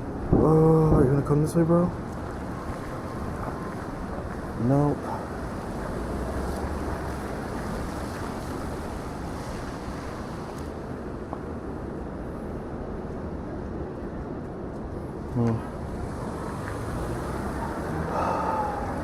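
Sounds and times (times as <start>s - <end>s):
city street wash: 0.0s - 19.0s.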